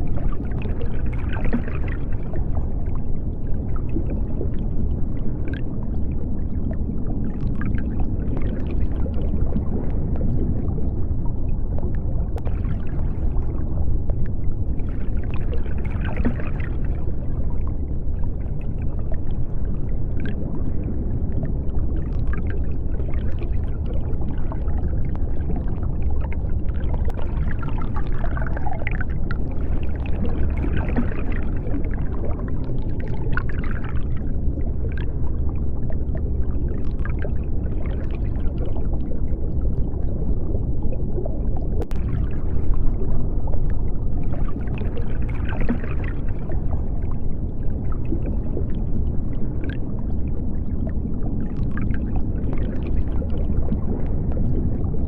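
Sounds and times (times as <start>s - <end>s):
deep underwater rumble: 0.0s - 55.0s
faint bubbling and gurgling: 0.0s - 55.0s.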